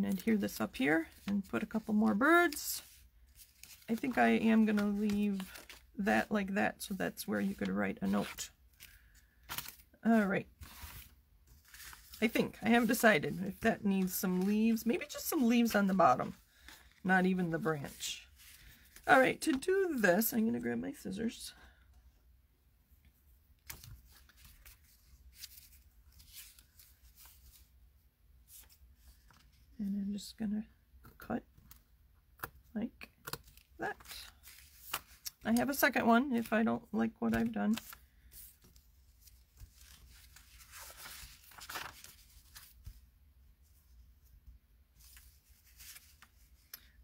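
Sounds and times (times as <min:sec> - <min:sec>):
paper rustling: 0:00.1 - 0:20.3, 0:23.6 - 0:27.8, 0:28.4 - 0:29.7, 0:33.2 - 0:44.0, 0:44.9 - 0:47.0.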